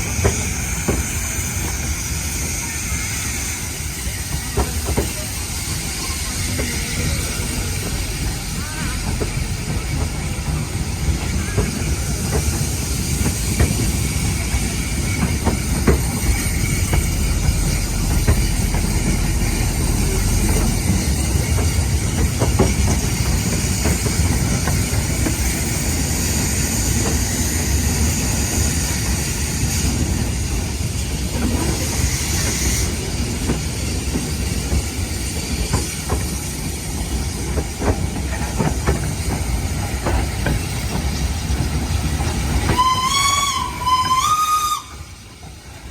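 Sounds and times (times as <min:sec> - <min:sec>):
steam hissing: 0:00.0 - 0:45.9
train wheels rumbling: 0:00.0 - 0:45.9
wheels clicking over rail joints: 0:04.0 - 0:29.2, 0:29.8 - 0:45.9.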